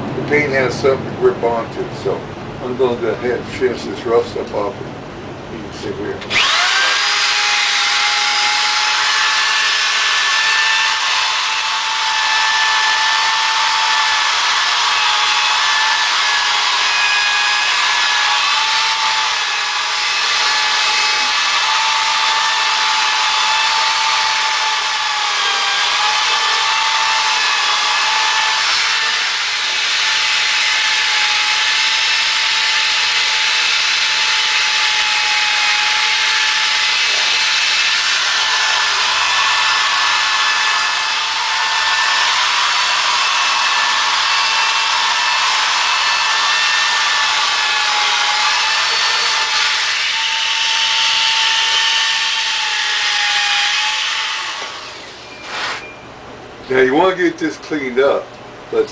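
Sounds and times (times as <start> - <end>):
drill with wire brush scrubbing metal: 6.3 - 55.9.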